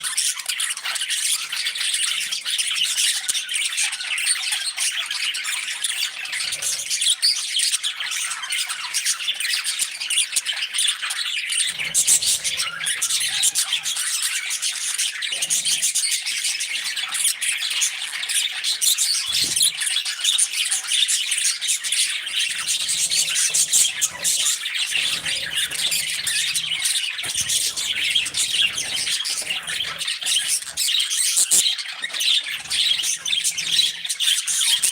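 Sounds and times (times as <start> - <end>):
parrots chirping and chattering: 0.0 - 34.9.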